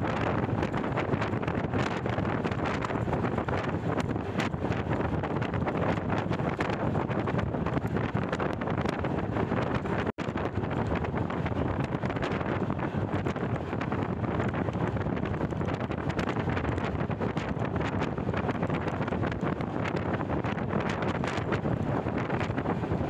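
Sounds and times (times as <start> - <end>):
train running on rails: 0.0 - 23.0
wind buffeting microphone: 0.0 - 23.0.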